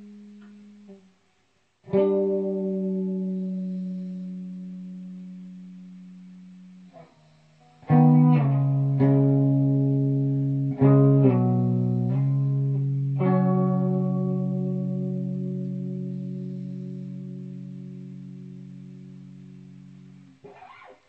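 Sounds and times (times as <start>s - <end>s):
electric guitar notes ringing: 1.8s - 21.0s.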